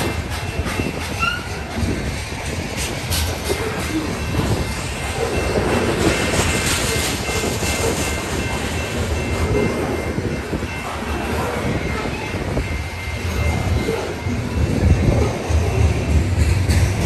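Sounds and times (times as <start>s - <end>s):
freight train wheels rumbling: 0.0s - 17.0s
railroad crossing bell: 0.0s - 17.0s.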